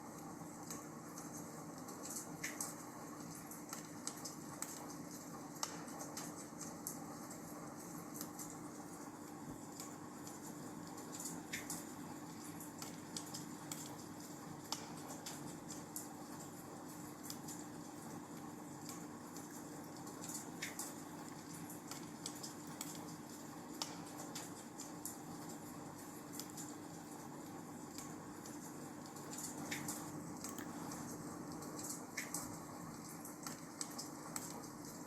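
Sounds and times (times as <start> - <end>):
wood fire crackling: 0.1 - 35.0.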